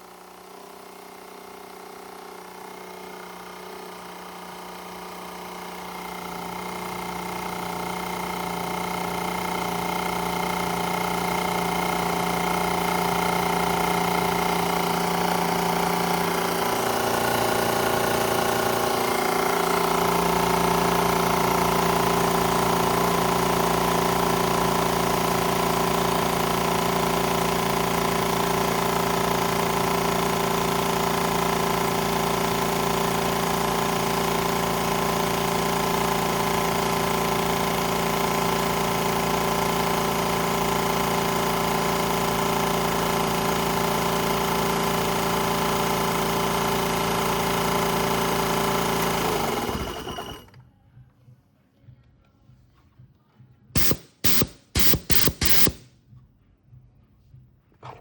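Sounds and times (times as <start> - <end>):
electric air compressor running: 0.0 - 50.6, 53.8 - 55.9.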